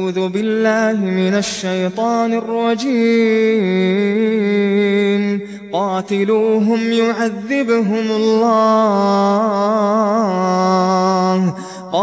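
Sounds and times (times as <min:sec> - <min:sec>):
person chanting melodic recitation: 0:00.0 - 0:12.0.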